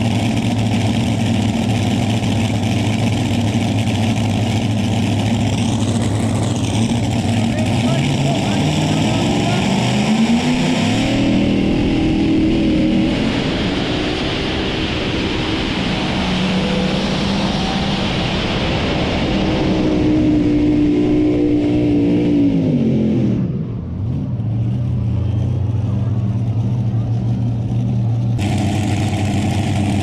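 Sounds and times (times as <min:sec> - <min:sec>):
tractor engine at high revs: 0:00.0 - 0:30.0.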